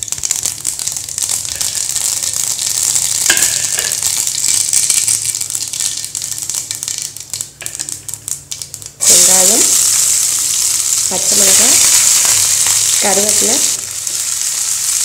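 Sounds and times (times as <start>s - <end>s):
seeds sizzling in hot oil: 0.0s - 15.0s.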